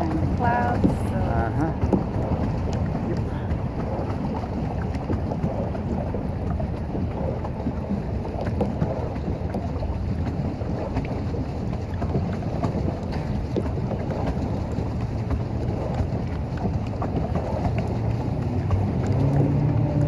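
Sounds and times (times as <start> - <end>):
faint ticks of water: 0.0 - 20.0
paddle wheel splashing water: 0.0 - 20.0
wind buffeting microphone: 0.0 - 20.0.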